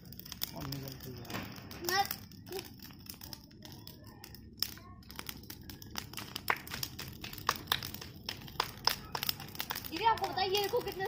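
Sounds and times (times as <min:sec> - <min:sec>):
bonfire crackling and popping: 0:00.0 - 0:11.0.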